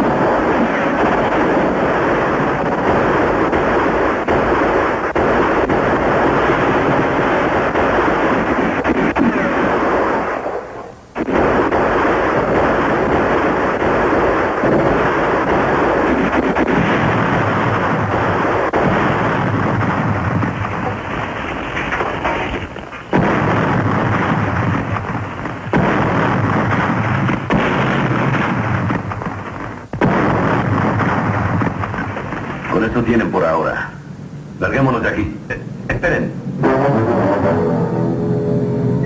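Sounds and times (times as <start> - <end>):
gunfire: 0.0 - 33.6
explosions: 0.0 - 33.8.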